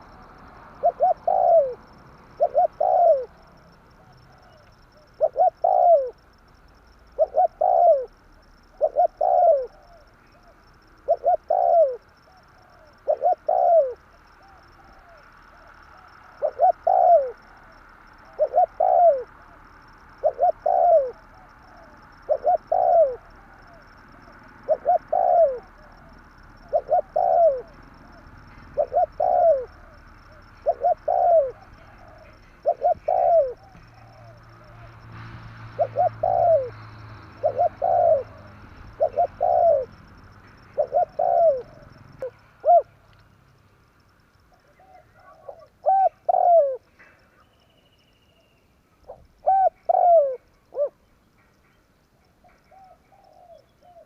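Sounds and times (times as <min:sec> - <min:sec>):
dove cooing: 0:00.0 - 0:43.1, 0:44.5 - 0:48.4, 0:49.0 - 0:51.6, 0:52.4 - 0:54.0.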